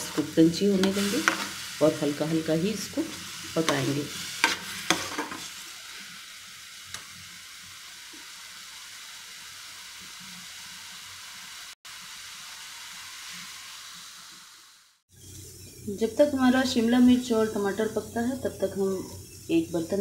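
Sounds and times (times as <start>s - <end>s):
vegetables sizzling in frying pan: 0.0s - 20.0s.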